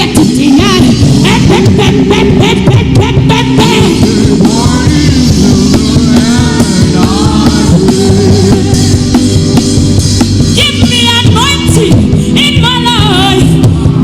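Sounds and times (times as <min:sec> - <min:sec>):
worship band music with drums: 0:00.0 - 0:14.0.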